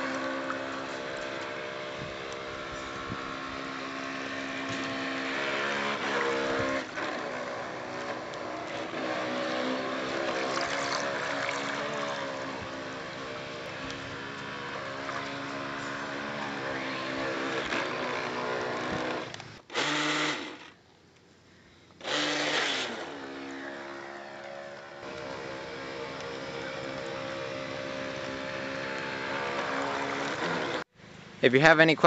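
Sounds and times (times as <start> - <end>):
small electric motor whine: 0.0 - 20.8, 22.0 - 30.9.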